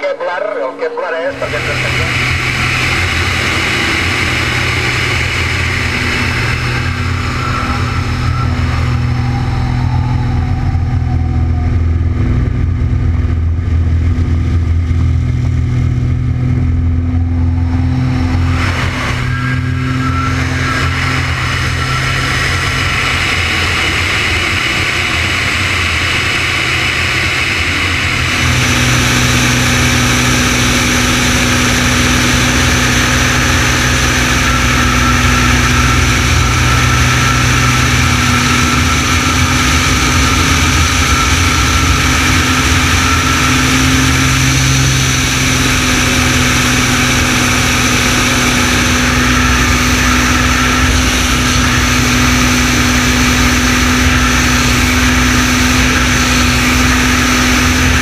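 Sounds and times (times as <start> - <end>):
airplane engine and propeller: 0.0 - 58.0
wind rushing: 1.4 - 58.0.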